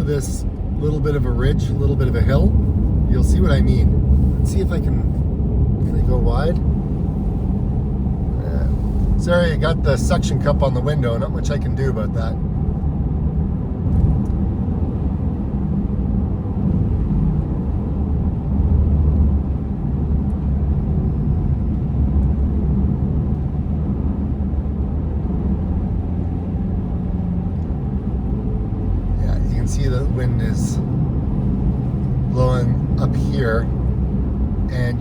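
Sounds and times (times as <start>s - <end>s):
car cabin road and engine rumble: 0.0s - 35.0s.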